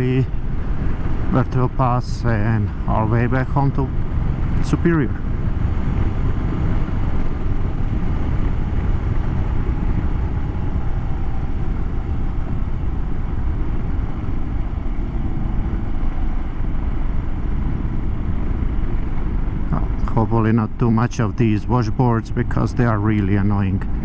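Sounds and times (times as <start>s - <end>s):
motorcycle engine rumble: 0.0s - 24.0s
wind: 0.0s - 24.0s.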